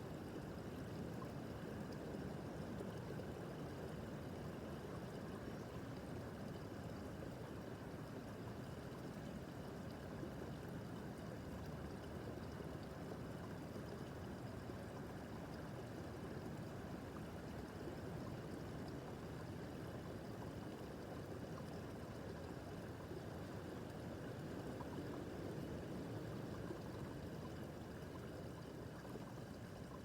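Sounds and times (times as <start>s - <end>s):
stream water gurgling over stones: 0.0s - 30.0s.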